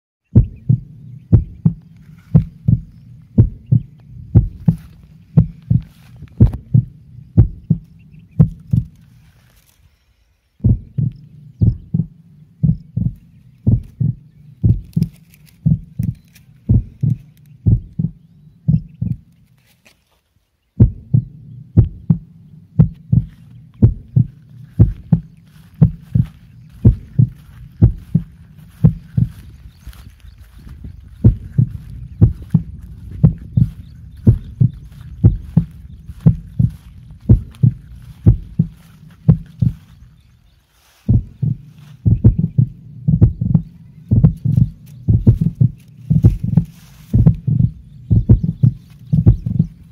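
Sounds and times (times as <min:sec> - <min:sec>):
steady low rumble: 0:00.2 - 0:19.8, 0:20.7 - 0:49.9.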